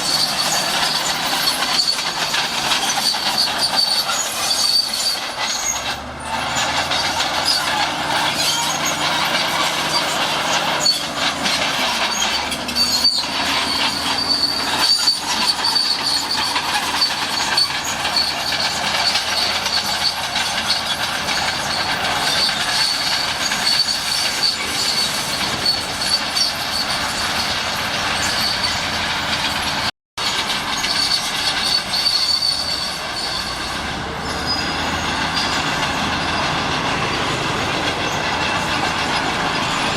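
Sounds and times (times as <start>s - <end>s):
diesel engine under load: 0.0s - 39.9s
steel tracks squealing and clanking: 0.0s - 39.9s.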